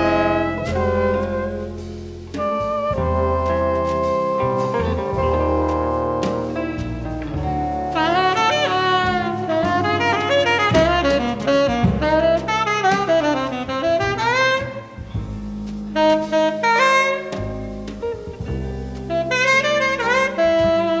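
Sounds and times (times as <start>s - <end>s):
band playing jazz: 0.0s - 21.0s.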